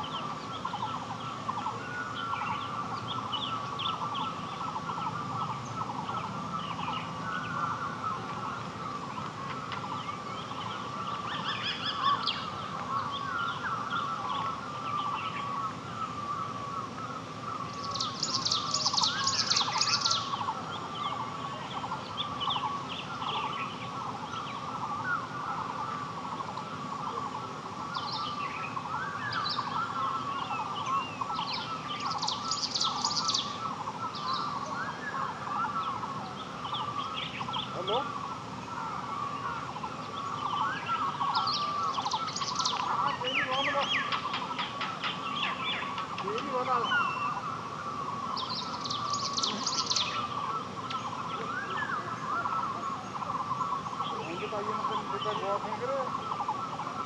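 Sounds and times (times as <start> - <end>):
bird calls: 0.0 - 57.0
high twittering: 0.0 - 57.0.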